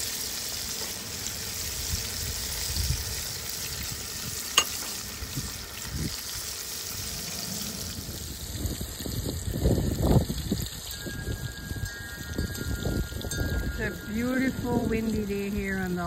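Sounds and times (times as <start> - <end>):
fish deep-frying in oil: 0.0 - 16.0.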